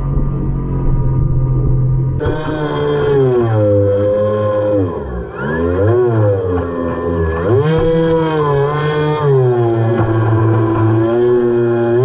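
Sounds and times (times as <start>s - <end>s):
airboat motor and propeller: 0.0s - 12.0s.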